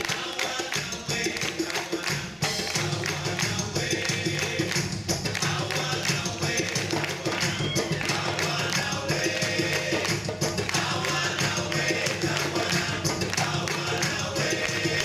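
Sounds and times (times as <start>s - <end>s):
latin music over sound system: 0.0s - 15.0s
tambourine: 0.0s - 15.0s.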